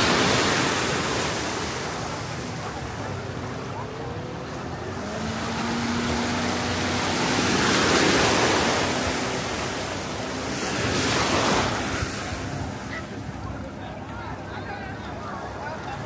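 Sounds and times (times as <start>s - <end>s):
ocean surf washing in: 0.0s - 15.6s.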